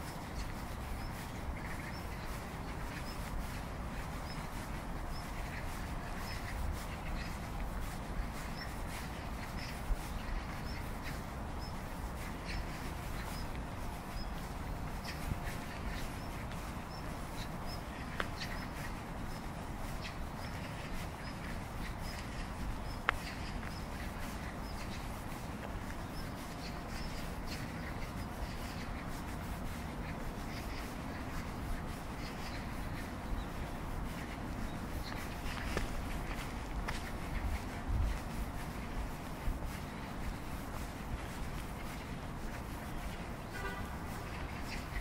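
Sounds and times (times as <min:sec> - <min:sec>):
small birds chirping: 0:00.0 - 0:45.0
steady low background noise: 0:00.0 - 0:45.0
steady low rumble: 0:00.0 - 0:45.0.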